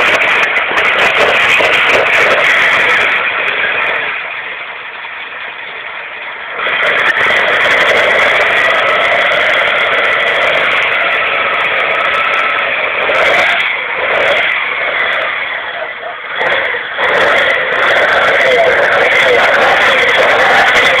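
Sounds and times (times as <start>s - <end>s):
sports car engine running: 0.0s - 21.0s.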